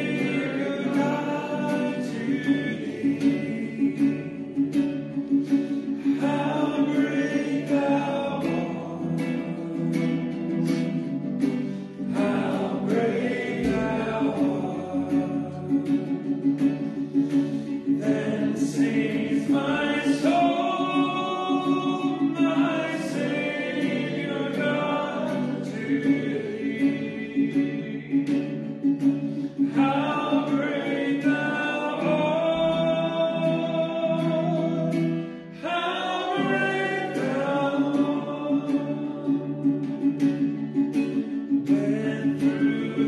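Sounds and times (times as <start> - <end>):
voices singing a hymn: 0.0 - 43.0.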